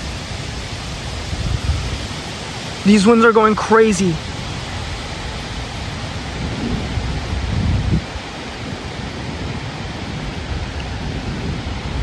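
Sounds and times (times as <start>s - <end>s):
strong wind on microphone: 0.0s - 2.8s, 4.2s - 12.0s.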